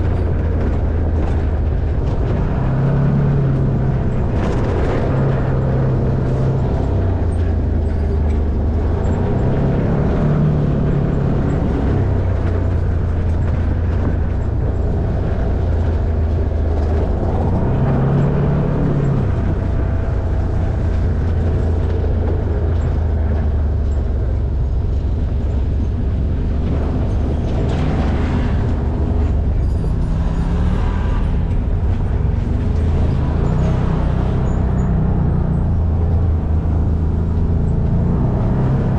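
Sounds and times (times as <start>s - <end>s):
off-road vehicle engine: 0.0s - 38.9s
rumble of vehicle moving: 0.0s - 38.9s.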